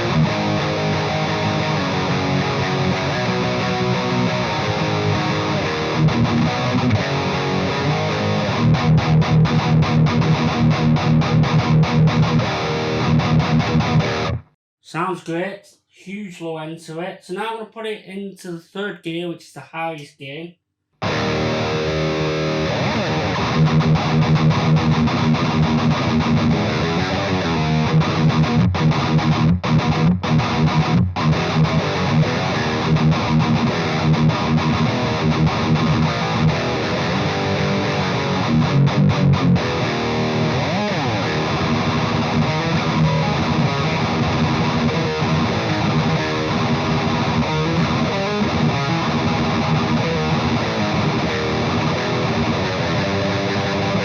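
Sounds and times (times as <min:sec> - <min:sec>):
distorted electric guitar riffing: 0:00.0 - 0:14.5, 0:21.0 - 0:54.0.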